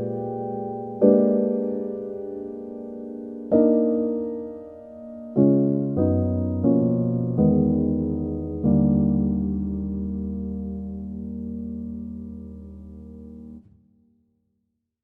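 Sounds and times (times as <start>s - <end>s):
gentle piano chords: 0.0s - 13.8s.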